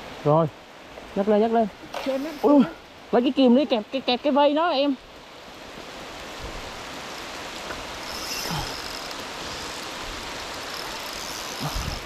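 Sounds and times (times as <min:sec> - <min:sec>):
heavy rain on a pond: 0:00.0 - 0:12.0.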